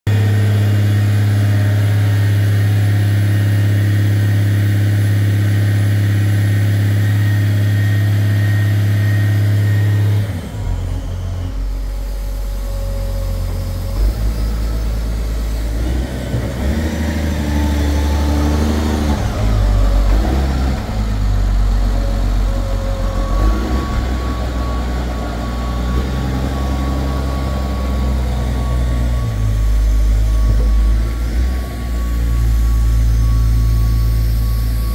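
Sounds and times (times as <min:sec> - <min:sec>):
drill rig engine hum: 0:00.1 - 0:34.9.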